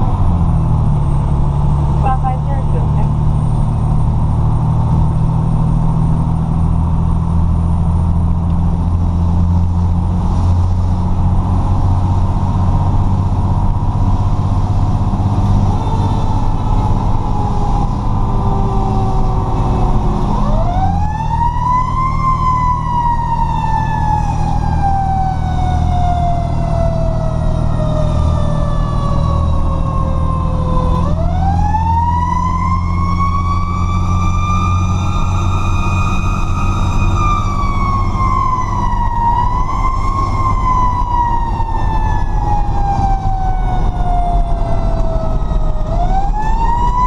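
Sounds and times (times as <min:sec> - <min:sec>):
fire truck engine and road noise: 0:00.0 - 0:47.0.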